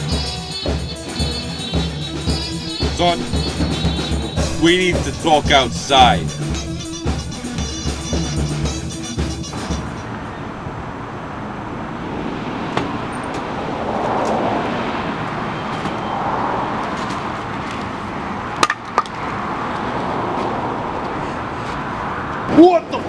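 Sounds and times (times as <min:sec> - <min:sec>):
traffic noise: 0:00.0 - 0:23.0.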